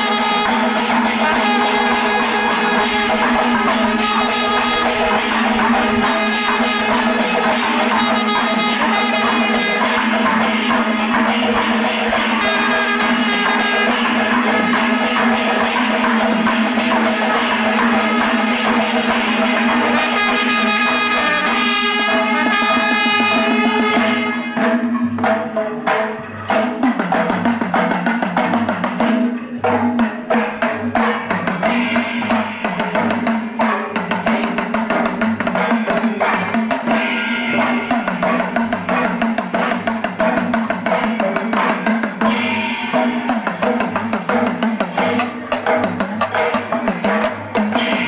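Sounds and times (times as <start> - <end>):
loud drumming: 0.0 - 48.0.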